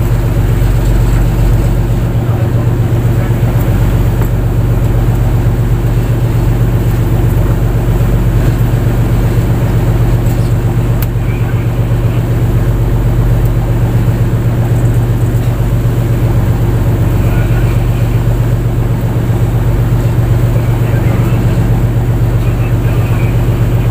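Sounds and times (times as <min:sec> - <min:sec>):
boat engine droning: 0:00.0 - 0:23.9.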